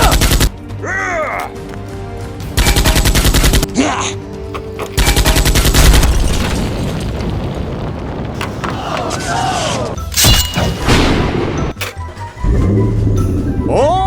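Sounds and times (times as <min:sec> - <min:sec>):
background music: 0:00.0 - 0:06.8, 0:08.7 - 0:14.0.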